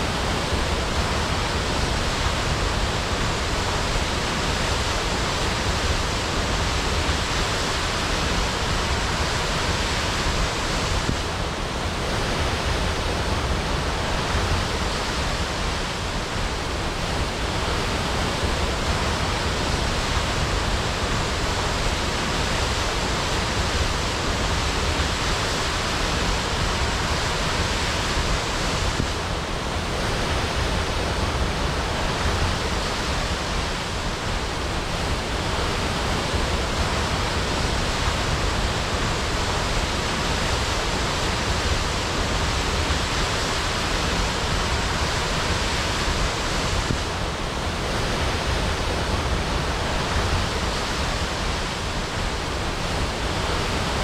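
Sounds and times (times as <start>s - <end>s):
waterfall crashing: 0.0s - 54.0s.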